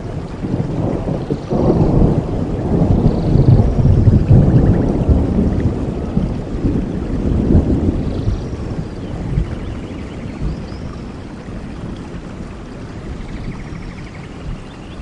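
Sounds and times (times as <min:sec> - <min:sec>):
rain falling steadily: 0:00.0 - 0:15.0
rolling thunder rumble: 0:00.0 - 0:15.0.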